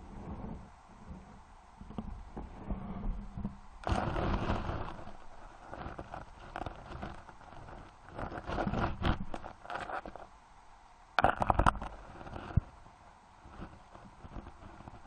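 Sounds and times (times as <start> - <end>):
muffled underwater scraping: 0.0 - 10.3, 11.2 - 15.0.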